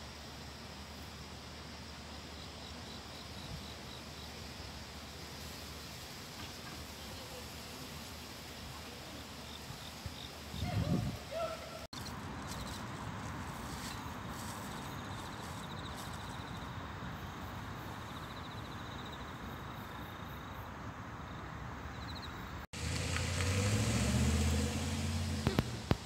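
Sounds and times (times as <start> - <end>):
insects trilling: 0.0 - 13.0, 13.6 - 22.7.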